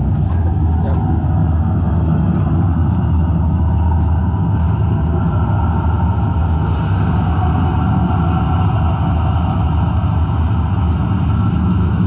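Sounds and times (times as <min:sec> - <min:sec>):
machinery rumbling: 0:00.0 - 0:12.0.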